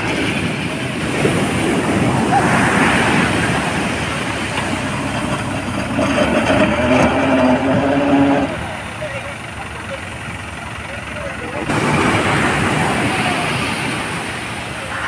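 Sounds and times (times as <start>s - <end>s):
heavy surf breaking: 0.0s - 9.6s, 11.3s - 15.0s
tractor engine running: 0.0s - 15.0s.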